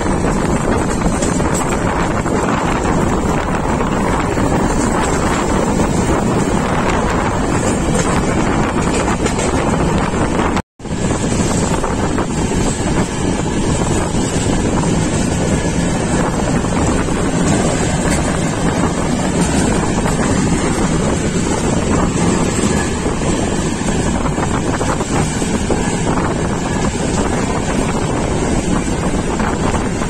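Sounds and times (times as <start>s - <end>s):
train running on track: 0.0s - 30.0s
wind rushing on microphone: 0.0s - 30.0s.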